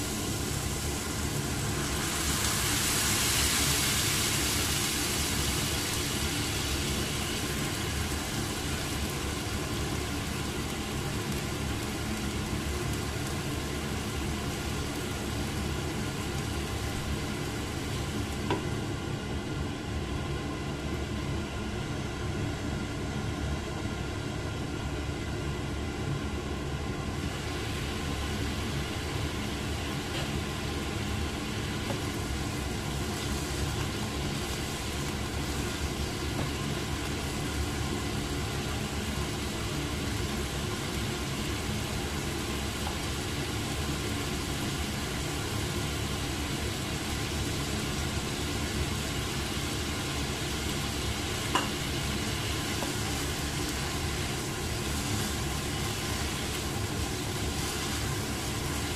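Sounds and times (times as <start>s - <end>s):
meat sizzling in a frying pan: 0.0s - 19.0s, 27.1s - 58.9s.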